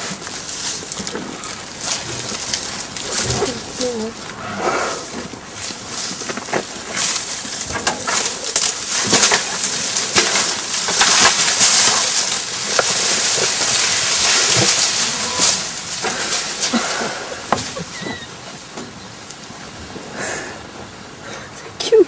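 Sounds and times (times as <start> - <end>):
branches snapping: 0.0 - 19.5
rustle of leaves: 0.0 - 22.0.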